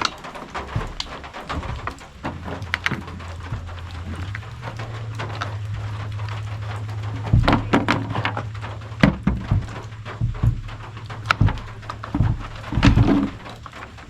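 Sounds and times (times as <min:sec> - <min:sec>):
small parts clicking and knocking: 0:00.0 - 0:14.0
steady low hum: 0:00.0 - 0:14.0.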